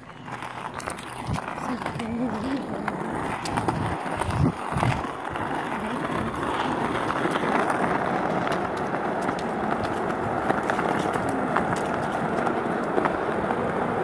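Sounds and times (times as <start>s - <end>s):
skateboard wheels rolling on asphalt: 0.0s - 14.0s.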